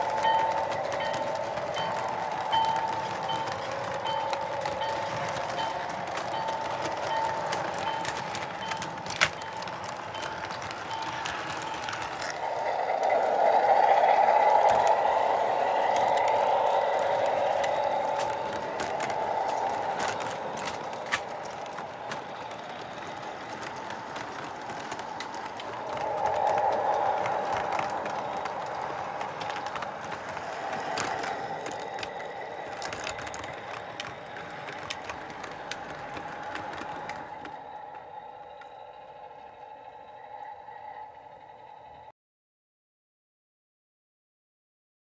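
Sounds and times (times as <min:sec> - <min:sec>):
model train rumbling: 0:00.0 - 0:42.1.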